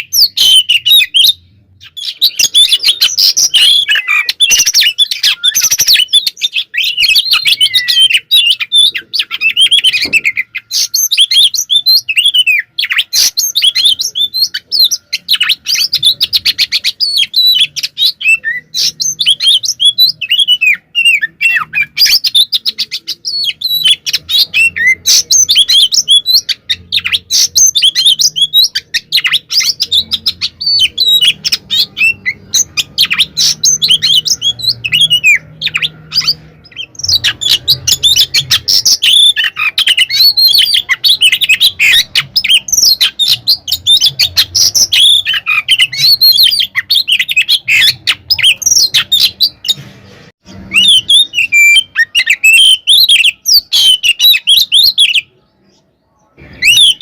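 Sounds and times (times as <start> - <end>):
bird singing varied whistles: 0.0 - 49.7.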